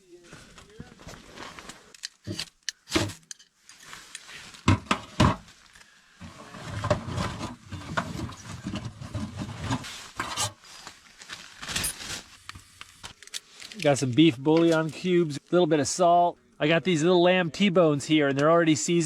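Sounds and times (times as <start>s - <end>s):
camp gear rustling and clattering: 0.0s - 15.4s.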